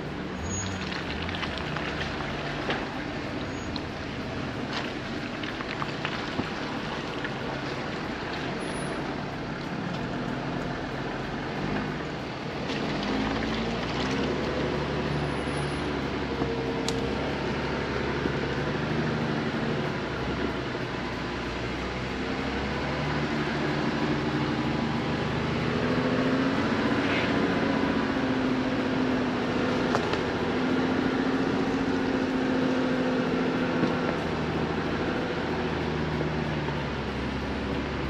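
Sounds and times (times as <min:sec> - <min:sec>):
car engine running: 0:00.0 - 0:38.0.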